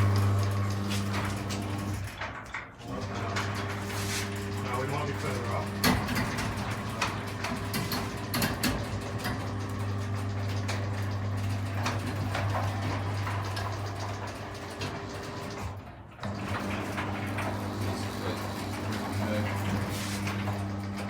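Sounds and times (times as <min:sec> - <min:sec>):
garage door motor humming: 0:00.0 - 0:21.0.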